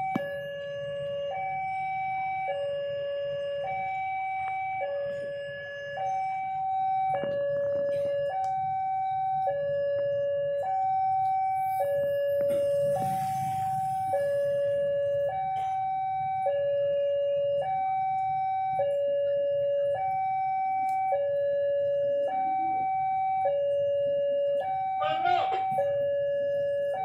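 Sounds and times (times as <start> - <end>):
two-tone level crossing alarm: 0.0 - 27.0.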